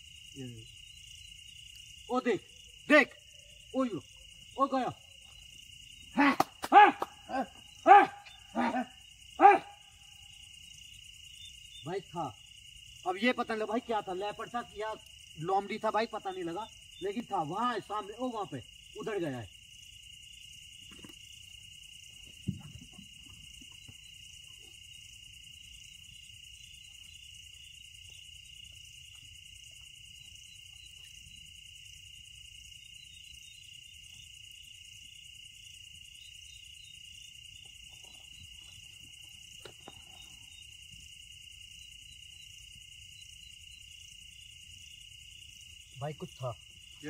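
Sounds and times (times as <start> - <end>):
crickets and insects trilling: 0.0 - 47.0.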